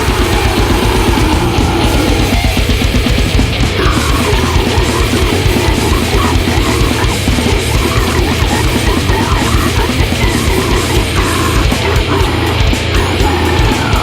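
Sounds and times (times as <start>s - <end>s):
distorted electric guitars: 0.0s - 14.0s
fast drumming: 0.0s - 14.0s.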